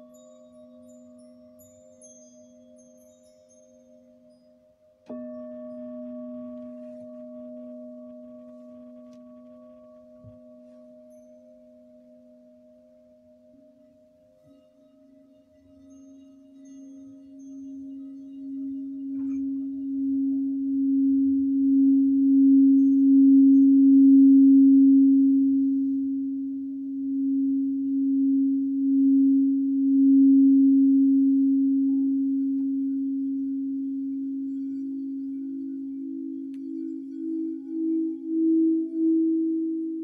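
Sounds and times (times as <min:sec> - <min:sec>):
singing bowl low note: 0:00.0 - 0:40.0.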